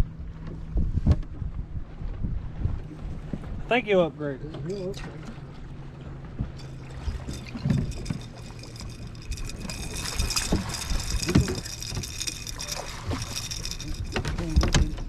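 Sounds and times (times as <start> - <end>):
water splashing against a boat: 0.2 - 15.0
steady low hum: 1.6 - 15.0.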